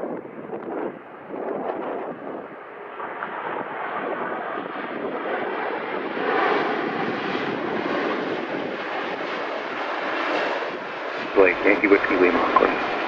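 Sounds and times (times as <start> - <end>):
jet engines rushing: 0.2 - 13.0.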